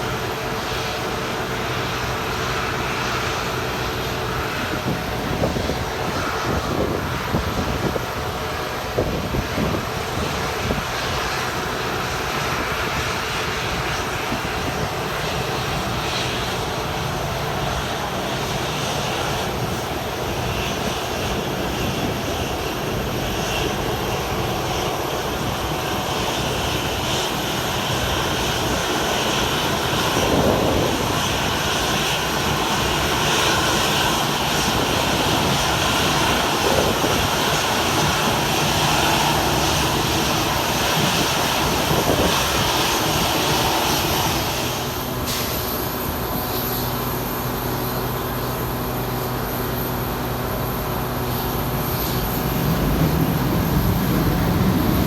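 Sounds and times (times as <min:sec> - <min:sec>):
aircraft engines running: 0:00.0 - 0:55.0.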